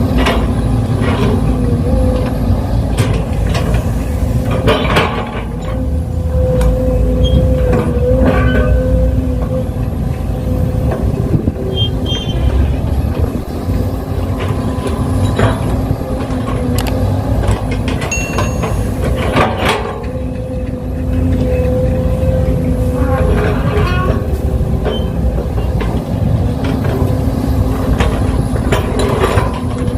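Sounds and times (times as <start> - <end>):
constant machine whine: 0.0 - 29.9
heavy machinery engine rumble: 0.0 - 29.9.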